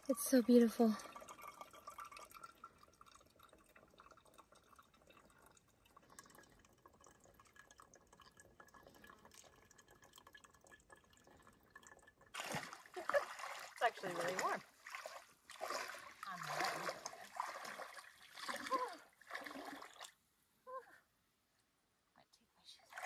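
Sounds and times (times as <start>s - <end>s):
faint water drips: 0.0s - 20.9s.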